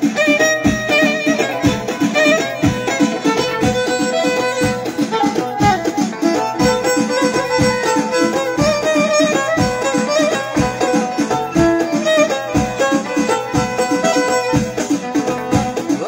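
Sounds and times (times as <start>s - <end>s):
drum kit beat: 0.0s - 16.0s
frame drums: 0.0s - 16.0s
keyboard: 0.0s - 16.0s
violin melody: 0.0s - 16.0s.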